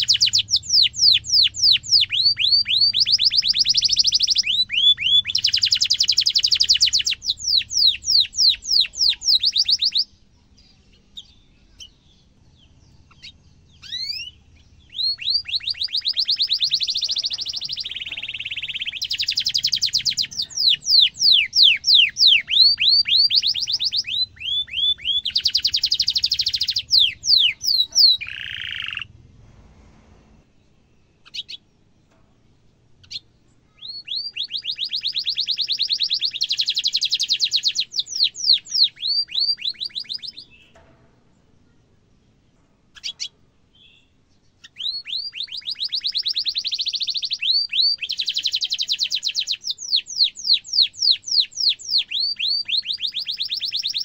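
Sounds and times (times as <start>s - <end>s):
canary singing trills: 0.0s - 29.1s, 30.7s - 32.2s, 33.0s - 40.8s, 42.9s - 54.0s
faint bird chirps: 0.0s - 29.2s, 30.2s - 54.0s.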